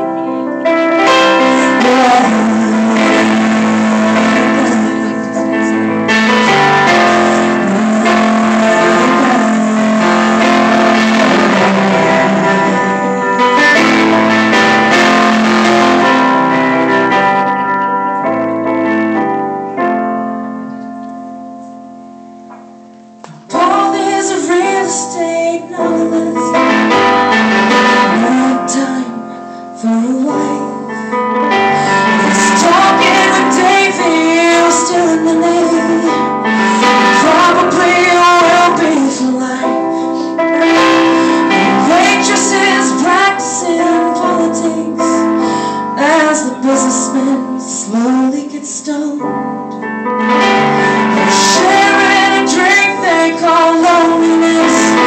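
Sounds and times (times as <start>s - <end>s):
person singing: 0.0s - 18.7s, 23.3s - 55.0s
keyboard chords: 0.0s - 55.0s.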